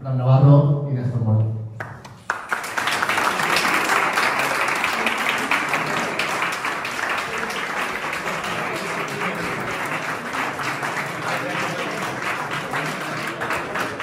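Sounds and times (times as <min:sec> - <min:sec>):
small audience clapping: 0:01.8 - 0:14.0.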